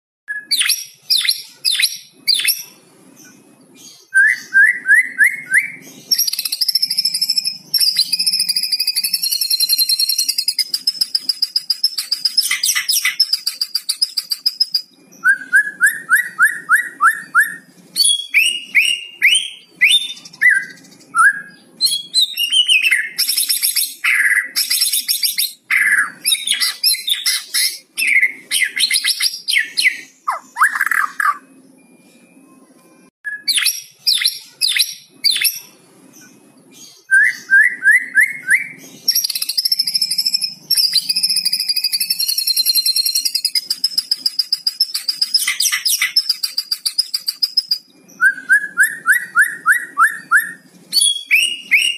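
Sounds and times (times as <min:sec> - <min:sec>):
songbird singing trills and whistles: 0:00.3 - 0:51.9.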